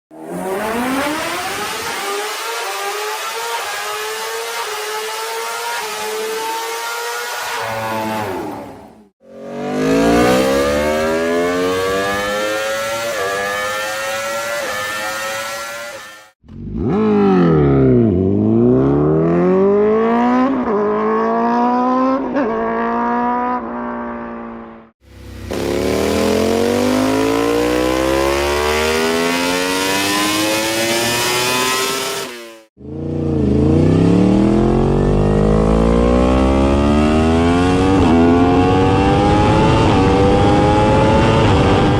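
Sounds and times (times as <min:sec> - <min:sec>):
motorcycle engine accelerating: 0:00.1 - 0:41.9.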